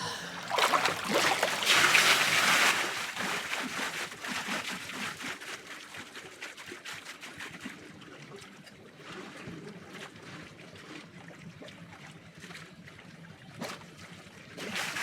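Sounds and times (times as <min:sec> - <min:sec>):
hot tub water splashing: 0:00.0 - 0:13.0, 0:13.7 - 0:15.0
water sloshing and trickling: 0:00.0 - 0:15.0.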